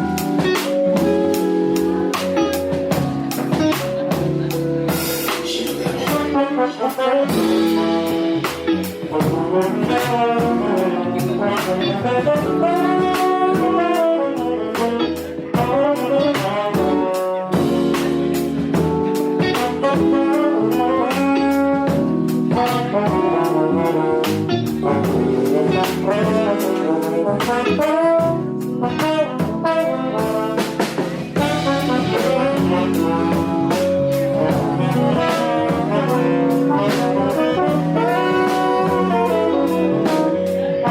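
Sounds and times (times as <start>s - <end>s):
electric bass: 0.0s - 6.5s, 7.2s - 40.9s
drum kit with cymbals: 0.0s - 40.9s
electric guitar: 0.0s - 40.9s
piano: 0.0s - 40.9s
tenor saxophone: 0.0s - 40.9s
trombone: 0.0s - 40.9s.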